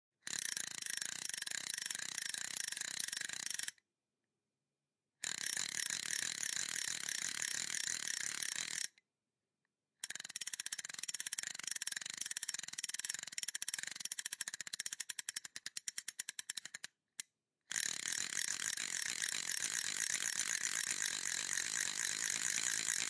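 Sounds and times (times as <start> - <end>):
fishing reel cranking clicks: 0.2 - 3.8, 5.2 - 9.0, 10.0 - 16.9, 17.7 - 23.0.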